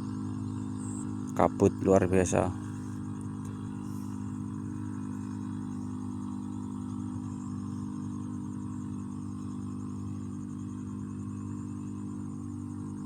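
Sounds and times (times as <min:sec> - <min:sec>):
four-stroke engine running: 0:00.0 - 0:13.0.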